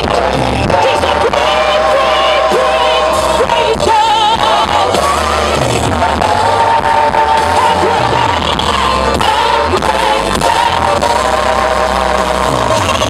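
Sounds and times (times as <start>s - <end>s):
backing singers: 0.0s - 13.0s
gospel band playing: 0.0s - 13.0s
woman singing with vibrato: 0.0s - 13.0s.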